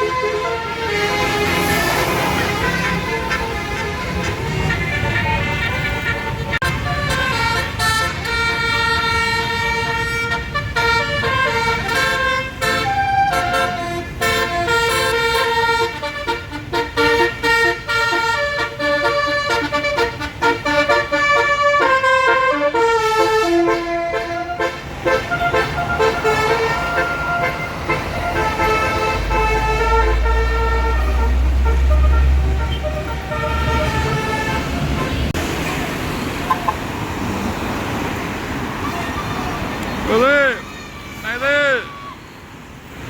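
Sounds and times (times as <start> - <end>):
bus horn playing a tune: 0.0 - 35.4.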